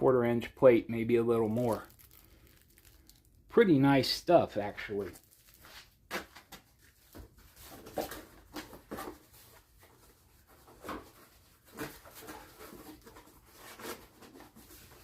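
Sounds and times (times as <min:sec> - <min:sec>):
parts and packaging rustling: 0:01.3 - 0:03.5, 0:04.8 - 0:15.0.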